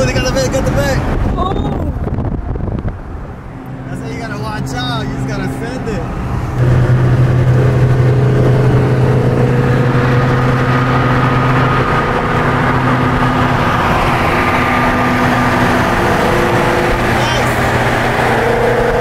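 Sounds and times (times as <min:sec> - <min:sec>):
car engine droning in cabin: 0:00.0 - 0:19.0
road and wind noise: 0:00.0 - 0:19.0.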